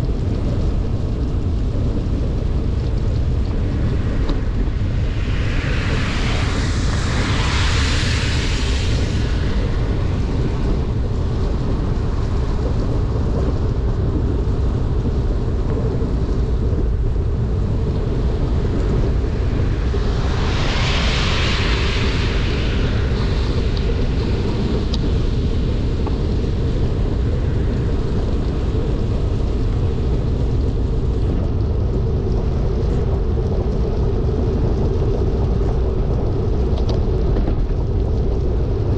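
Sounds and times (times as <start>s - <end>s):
rushing hiss of rain: 0.0s - 38.9s
wind buffeting microphone: 0.0s - 38.9s.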